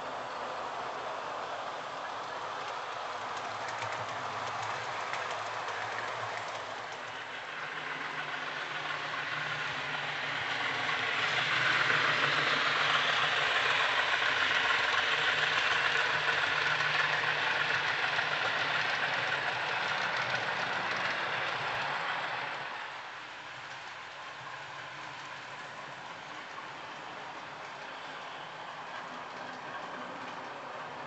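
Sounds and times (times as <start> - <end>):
model train wheels rattling: 2.2 - 31.0.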